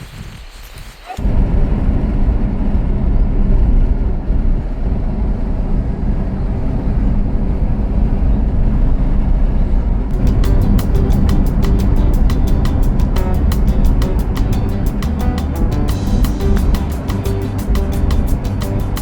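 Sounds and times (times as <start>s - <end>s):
loud low rumbling: 1.2s - 19.0s.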